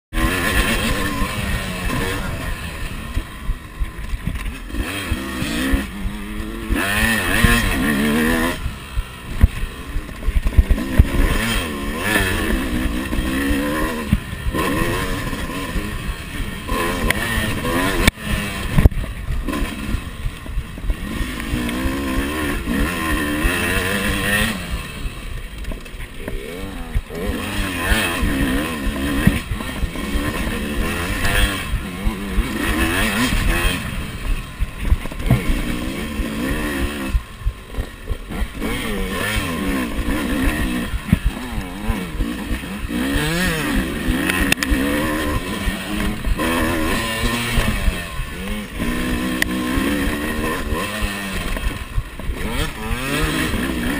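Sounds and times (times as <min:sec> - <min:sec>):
dirt bike engine revving: 0:00.0 - 0:53.9
second dirt bike: 0:00.1 - 0:53.9.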